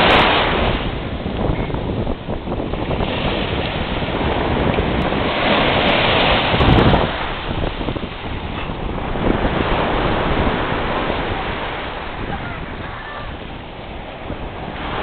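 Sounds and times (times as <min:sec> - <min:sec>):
wind buffeting microphone: 0:00.0 - 0:15.0
small surf breaking: 0:02.8 - 0:15.0.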